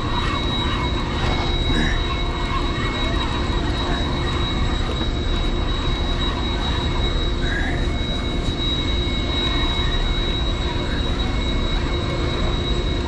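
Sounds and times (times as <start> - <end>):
boat engines running: 0.0 - 13.0
high whine: 0.0 - 13.0.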